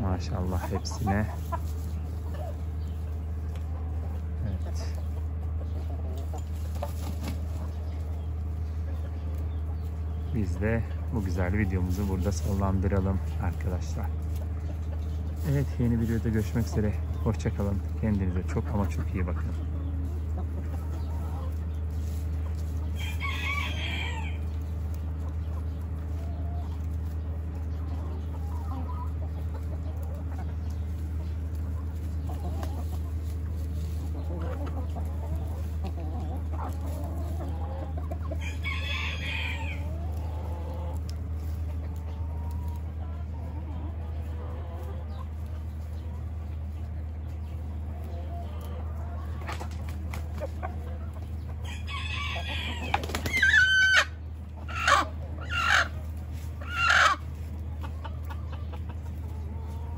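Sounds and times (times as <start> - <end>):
steady low hum: 0.0 - 51.7
chickens calling: 0.0 - 59.9.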